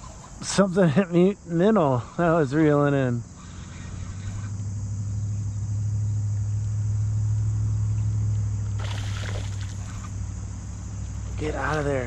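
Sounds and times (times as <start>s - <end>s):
insects buzzing: 0.0s - 12.0s
low engine hum: 2.0s - 12.0s.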